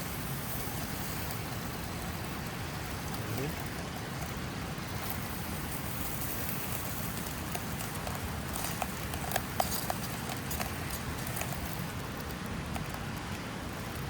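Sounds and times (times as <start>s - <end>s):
food sizzling in a pan: 0.0s - 12.1s.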